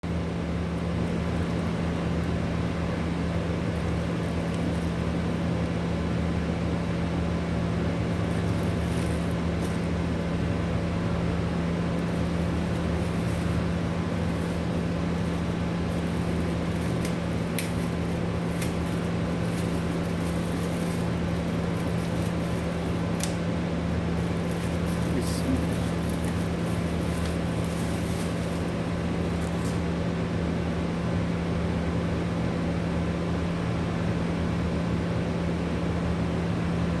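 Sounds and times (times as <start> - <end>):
mechanical hum with low drone: 0.0 - 37.0.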